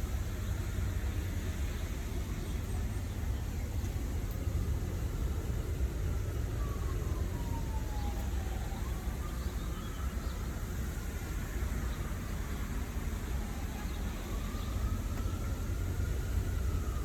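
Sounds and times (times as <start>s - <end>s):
city traffic rumble: 0.0s - 17.0s
emergency vehicle siren: 0.0s - 17.0s.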